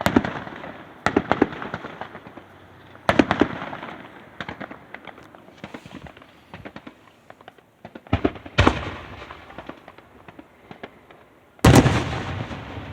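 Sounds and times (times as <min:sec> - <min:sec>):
fireworks booming: 0:00.0 - 0:12.9
fireworks crackling pops: 0:00.0 - 0:12.9.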